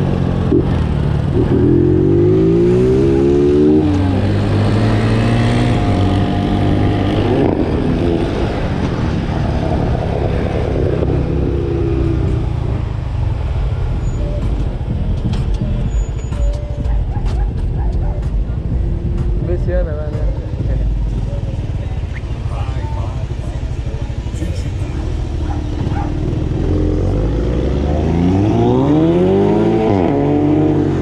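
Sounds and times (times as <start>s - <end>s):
road noise: 0.0s - 31.0s
vehicle engine accelerating: 0.0s - 31.0s.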